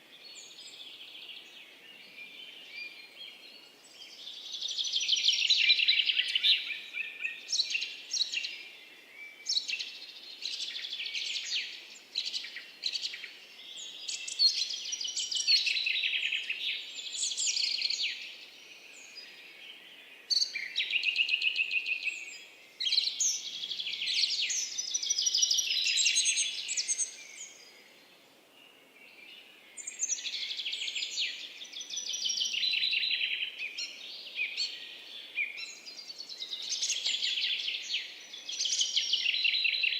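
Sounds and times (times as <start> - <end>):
songbirds chirping and singing: 0.1 - 39.9.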